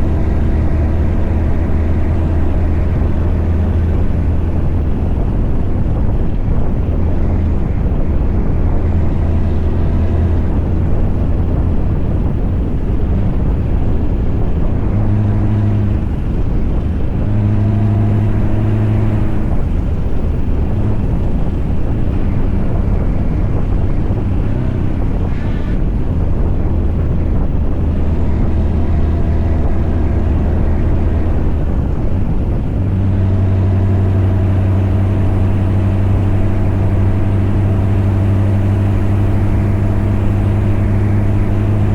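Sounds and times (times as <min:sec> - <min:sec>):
diesel truck engine under load: 0:00.0 - 0:41.9.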